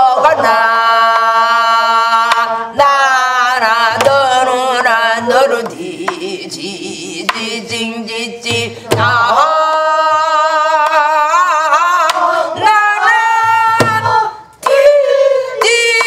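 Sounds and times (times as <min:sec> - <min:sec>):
folk singing with vibrato: 0:00.0 - 0:16.0.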